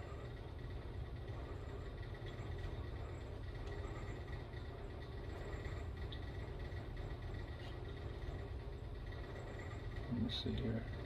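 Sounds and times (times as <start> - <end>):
faint high hum: 0.0 - 11.0
low background rumble: 0.0 - 11.0.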